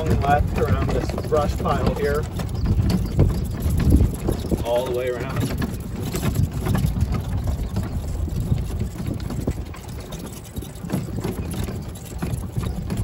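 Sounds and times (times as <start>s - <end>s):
golf cart rumbling over ground: 0.0s - 13.0s
wind buffeting microphone: 0.0s - 13.0s.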